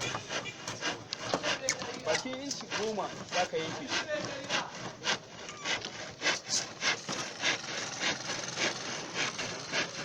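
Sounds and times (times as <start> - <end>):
hand saw cutting wood: 0.0 - 10.0.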